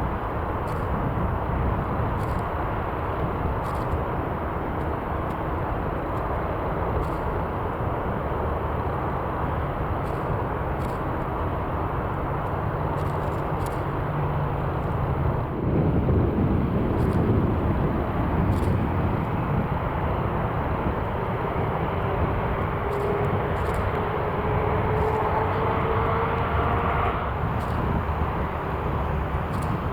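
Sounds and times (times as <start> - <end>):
jet engines rumbling: 0.0 - 29.9.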